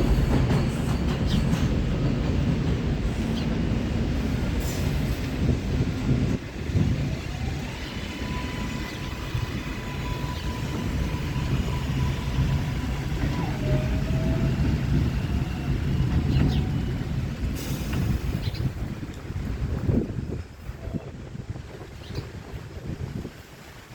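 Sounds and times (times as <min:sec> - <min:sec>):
subway train rumble: 0:00.0 - 0:23.9.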